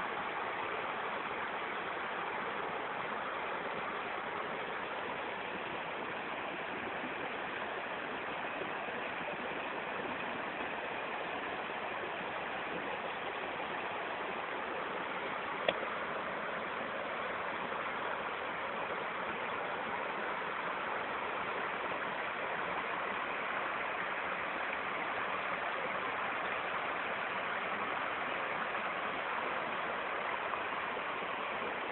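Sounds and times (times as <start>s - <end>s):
stream flowing water: 0.0s - 31.9s.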